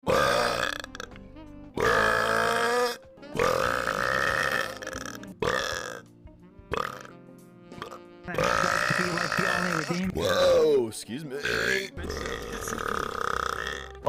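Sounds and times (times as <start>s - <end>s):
man burping loudly: 0.0s - 1.2s, 1.8s - 6.1s, 6.7s - 7.2s, 7.8s - 10.8s, 11.4s - 14.0s.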